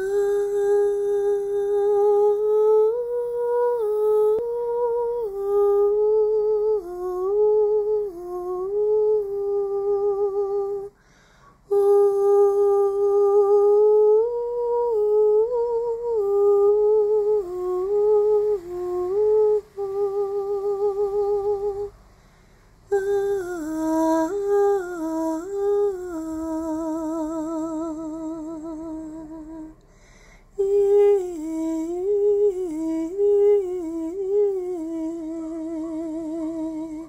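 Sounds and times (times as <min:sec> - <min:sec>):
person humming a melody: 0:00.0 - 0:11.0, 0:11.7 - 0:21.9, 0:22.9 - 0:29.8, 0:30.6 - 0:37.0.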